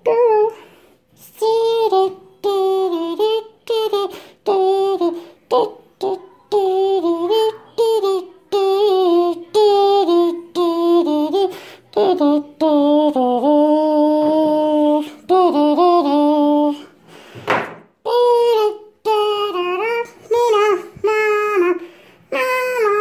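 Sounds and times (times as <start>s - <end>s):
high voice singing: 0.0s - 23.0s.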